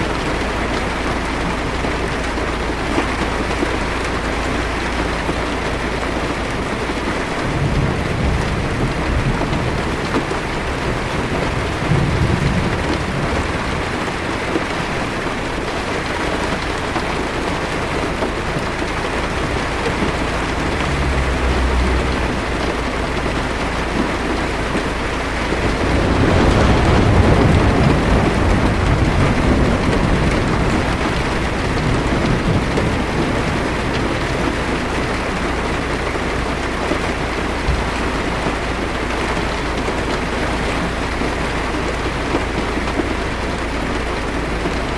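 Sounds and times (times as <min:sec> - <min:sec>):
heavy rain on car roof: 0:00.0 - 0:44.9
thunder rumbling: 0:00.0 - 0:44.9.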